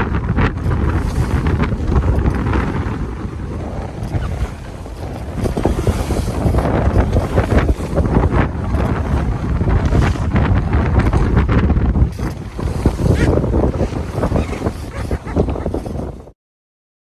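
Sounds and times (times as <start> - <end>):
water splashing along hull: 0.0 - 16.4
wind buffeting microphone: 0.0 - 16.4.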